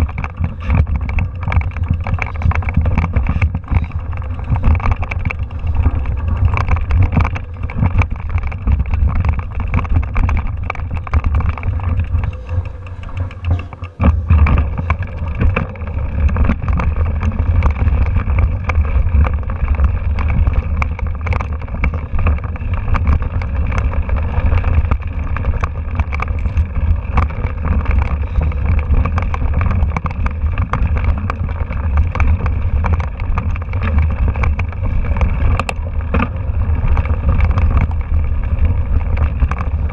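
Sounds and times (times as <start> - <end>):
bike rattling over stones: 0.0 - 39.9
wind rumble on microphone: 0.0 - 39.9.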